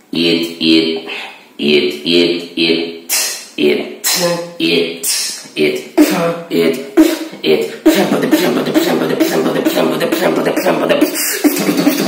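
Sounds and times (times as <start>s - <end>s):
human beatboxing: 0.0s - 12.0s.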